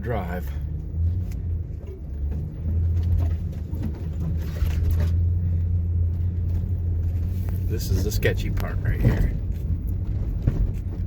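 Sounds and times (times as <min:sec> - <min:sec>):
pickup truck engine droning: 0:00.0 - 0:11.0.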